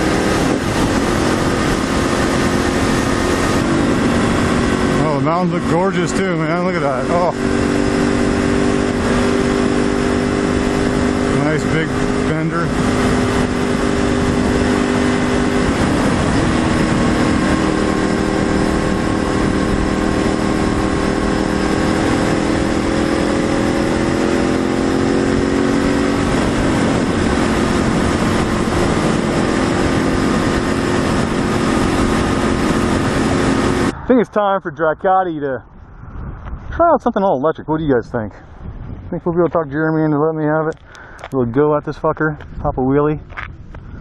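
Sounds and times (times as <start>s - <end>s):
motorcycle engine drone: 0.0s - 44.0s
wind noise: 0.0s - 44.0s.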